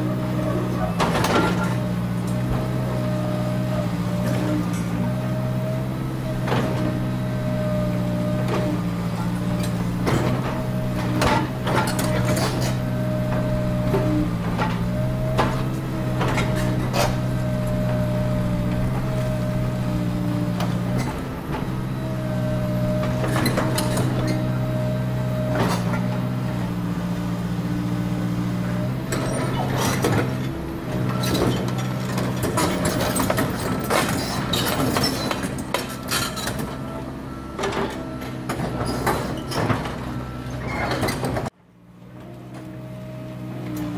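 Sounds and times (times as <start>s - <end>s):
excavator diesel engines running: 0.0s - 43.9s.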